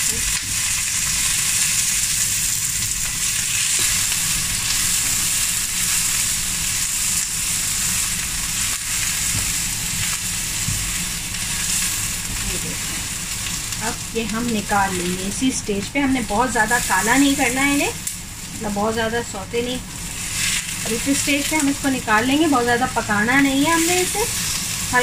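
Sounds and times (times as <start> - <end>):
vegetables sizzling in hot oil: 0.0 - 25.0.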